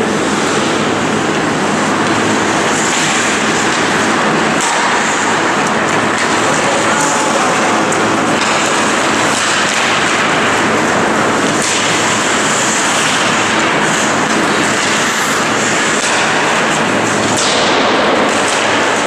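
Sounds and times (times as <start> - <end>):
echoing rink noise: 0.0 - 19.0
skates scraping ice: 0.1 - 19.0
hockey sticks and puck clicks: 0.2 - 19.0.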